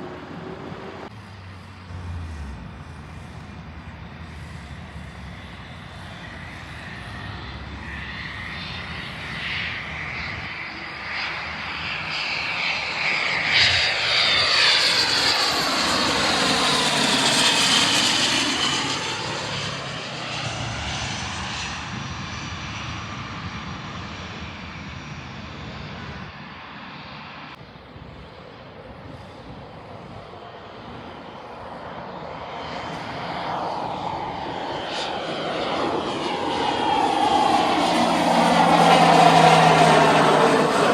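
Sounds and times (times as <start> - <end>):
aircraft engine passing: 0.0 - 40.9.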